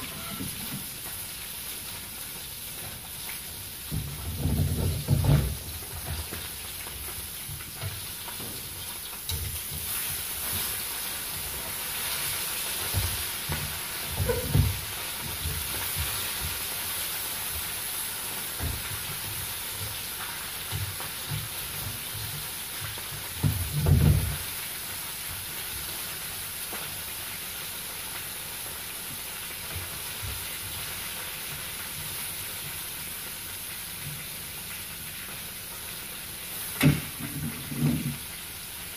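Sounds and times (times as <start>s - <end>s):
deep-frying sizzle: 0.0s - 38.9s.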